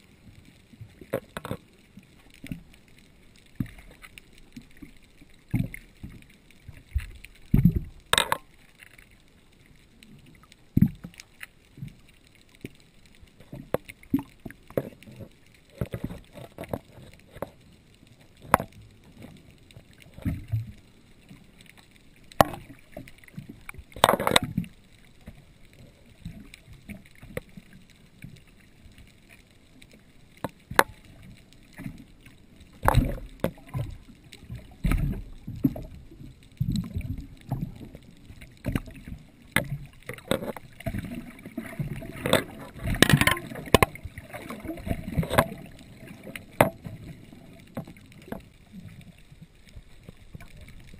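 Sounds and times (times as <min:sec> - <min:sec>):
muffled underwater water noise: 0:00.0 - 0:50.9
rushes of moving water: 0:00.0 - 0:50.9
small clicks and knocks: 0:00.0 - 0:50.9.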